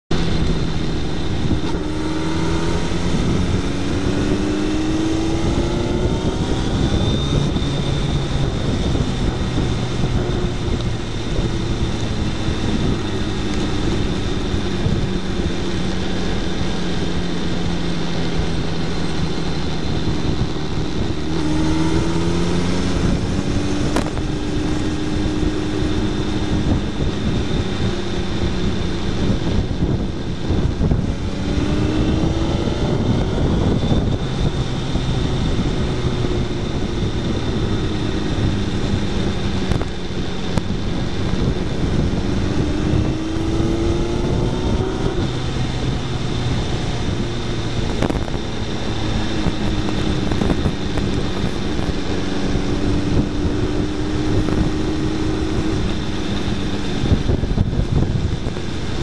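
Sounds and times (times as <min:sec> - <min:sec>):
motorcycle engine at speed: 0:00.0 - 0:59.0
wind and road rush: 0:00.0 - 0:59.0.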